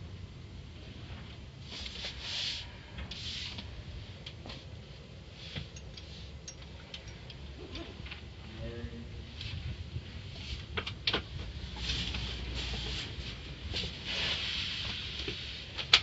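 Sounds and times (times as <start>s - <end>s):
car wash low rumble: 0.0s - 16.0s.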